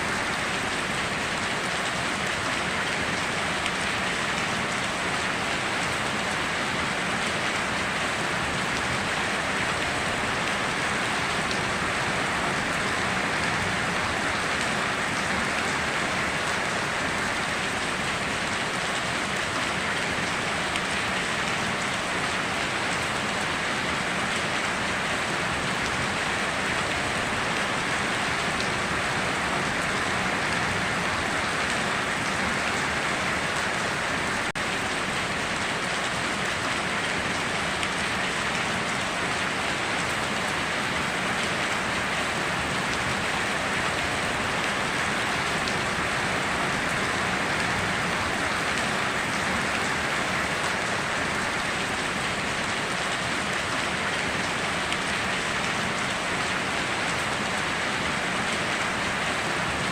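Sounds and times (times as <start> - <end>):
heavy rain patter: 0.0 - 59.9.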